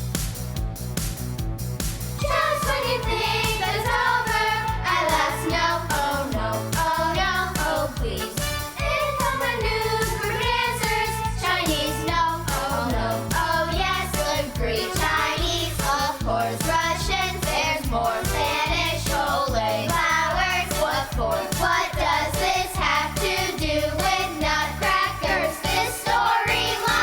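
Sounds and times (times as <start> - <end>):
accompaniment with steady beat: 0.0 - 27.0
voices singing a christmas song: 2.2 - 27.0.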